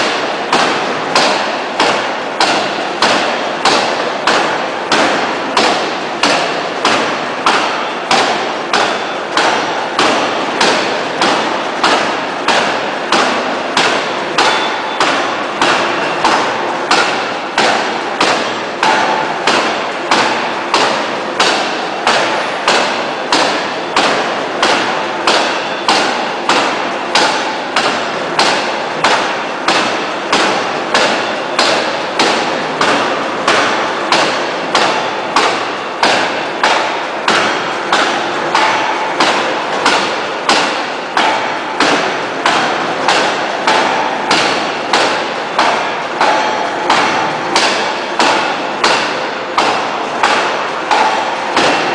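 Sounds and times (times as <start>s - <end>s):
forging hammer striking steel: 0.0s - 51.9s.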